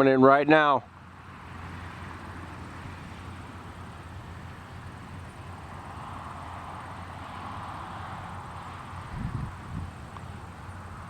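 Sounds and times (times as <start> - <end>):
distant engine rumble: 0.0 - 11.0.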